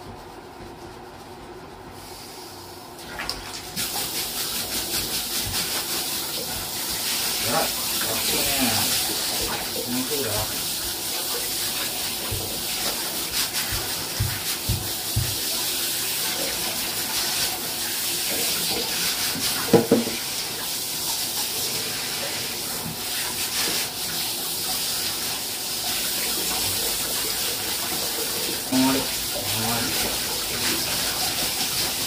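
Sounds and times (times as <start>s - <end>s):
shower spray hissing: 2.0s - 2.8s, 3.7s - 32.0s.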